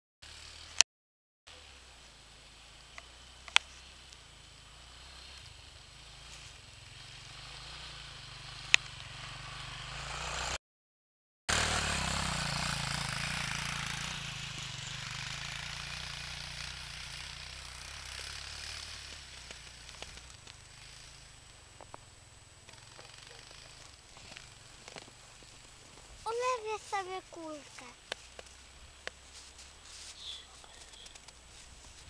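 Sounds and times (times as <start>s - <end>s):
quad bike engine running: 0.2s - 0.8s, 1.5s - 10.6s, 11.5s - 32.0s.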